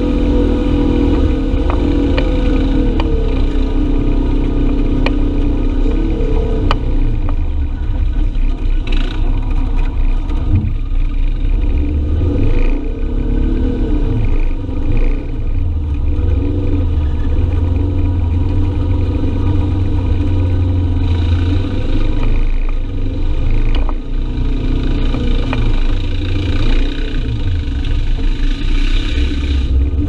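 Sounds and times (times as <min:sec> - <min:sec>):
utv engine droning: 0:00.0 - 0:30.0.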